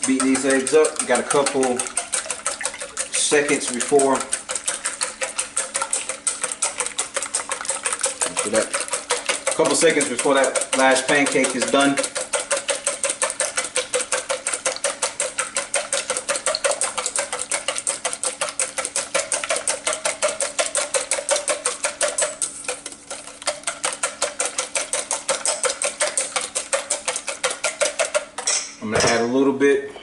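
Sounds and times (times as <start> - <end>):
whisk clicking against metal bowl: 0.0 - 29.2.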